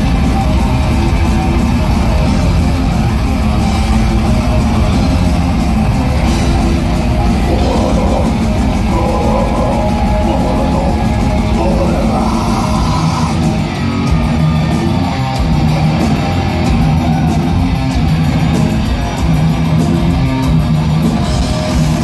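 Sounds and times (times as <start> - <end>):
death metal band playing live: 0.0 - 22.0
rapid cymbal strikes: 0.0 - 22.0.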